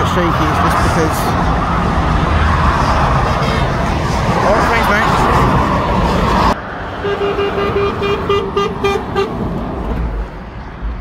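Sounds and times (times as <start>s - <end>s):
lorry and motorway traffic: 0.0s - 11.0s.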